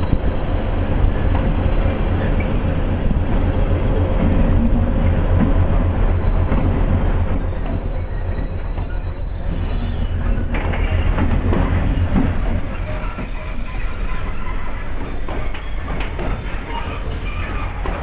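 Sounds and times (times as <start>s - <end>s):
high wheel squeal: 0.0s - 18.0s
train wagons rolling on track: 0.0s - 18.0s
wheels clicking at rail joints: 0.1s - 18.0s.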